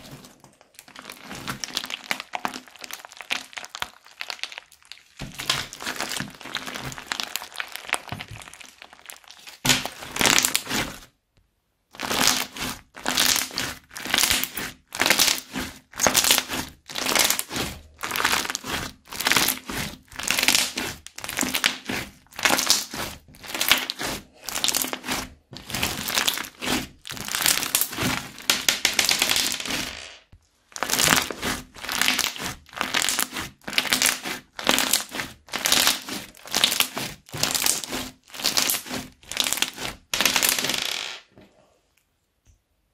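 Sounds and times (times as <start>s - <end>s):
crunchy slime squishing and popping: 0.0s - 11.1s, 11.9s - 30.1s, 30.7s - 40.8s.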